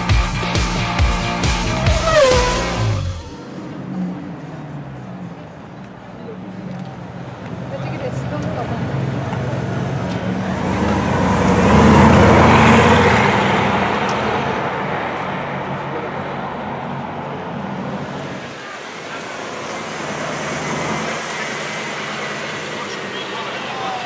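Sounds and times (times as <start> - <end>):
car accelerating away: 0.0 - 24.0
car passing close: 0.6 - 24.0.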